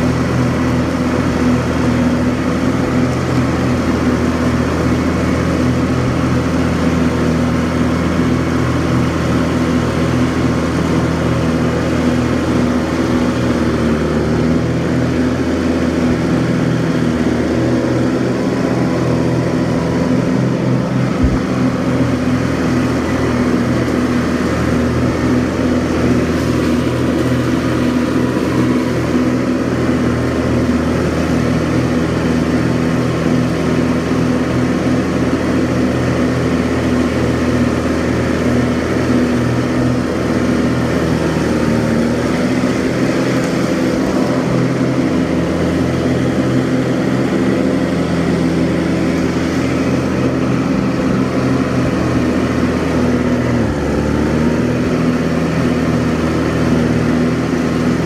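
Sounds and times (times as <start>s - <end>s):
diesel lawn tractor mowing: 0.0s - 58.0s.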